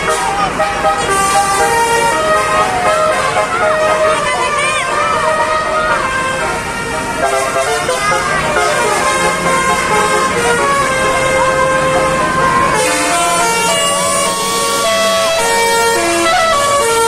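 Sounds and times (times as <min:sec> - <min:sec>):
multi-tone vehicle horns playing melody: 0:00.0 - 0:17.0.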